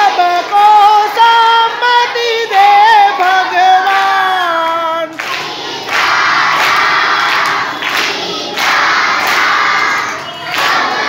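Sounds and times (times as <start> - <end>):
children shouting and cheering: 0.1 - 11.0.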